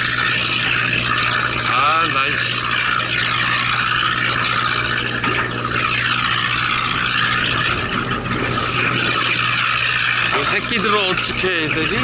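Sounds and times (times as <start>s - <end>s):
boat engine humming: 0.0s - 12.0s
water against hull: 0.0s - 12.0s.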